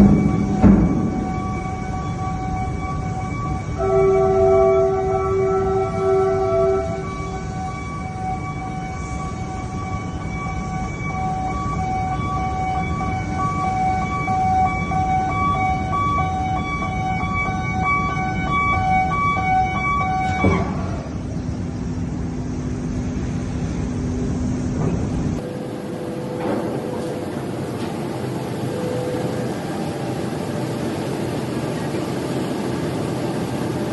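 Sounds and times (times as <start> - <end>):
siren-like warning tone: 0.0 - 24.3, 25.4 - 33.9.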